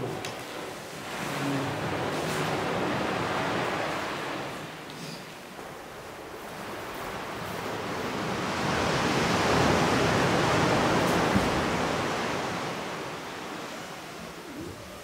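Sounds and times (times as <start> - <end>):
ocean wave washing on shore: 0.0 - 14.8.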